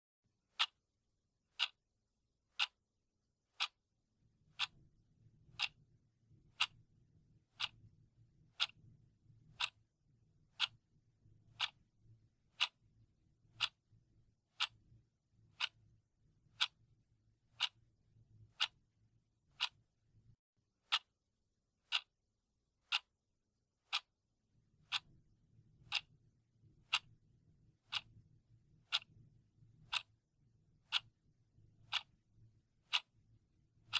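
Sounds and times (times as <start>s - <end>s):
clock ticking: 0.5s - 0.8s, 1.5s - 1.9s, 2.5s - 2.9s, 3.5s - 20.1s, 20.8s - 21.2s, 21.8s - 22.1s, 22.8s - 23.2s, 23.8s - 33.9s.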